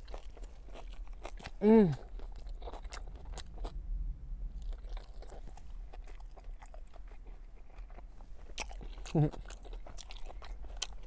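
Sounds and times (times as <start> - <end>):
person chewing sandwich: 0.0 - 3.8, 4.6 - 11.0.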